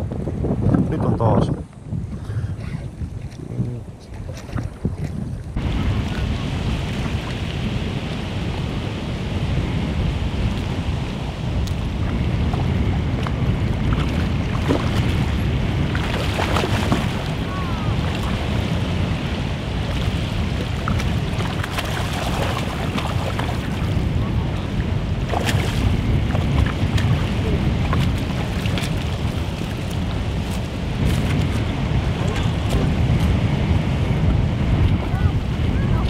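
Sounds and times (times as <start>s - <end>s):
wind buffeting microphone: 0.0s - 36.0s
waves lapping on stony shore: 2.9s - 36.0s.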